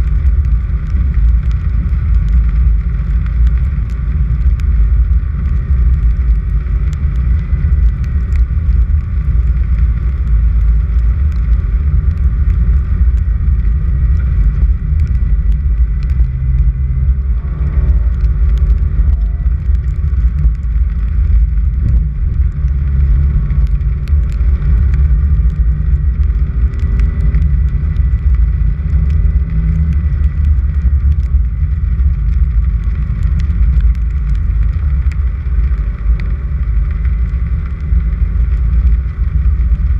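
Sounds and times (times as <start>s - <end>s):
car driving on dirt road: 0.0s - 39.9s.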